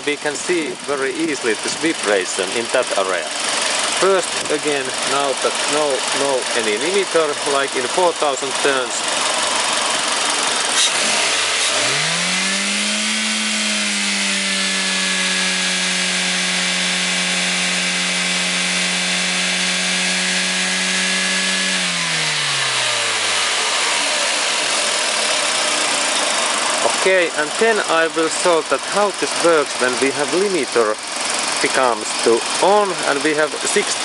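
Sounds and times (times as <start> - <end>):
car engine revving: 2.2 - 33.4.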